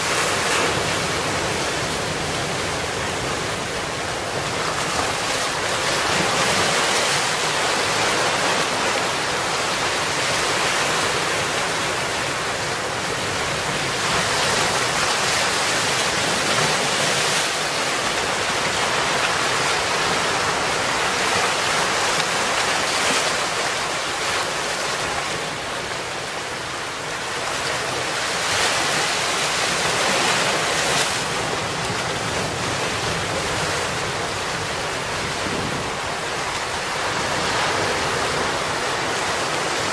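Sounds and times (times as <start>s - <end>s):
sea surf breaking on rocks: 0.0s - 39.9s
wind: 0.0s - 39.9s.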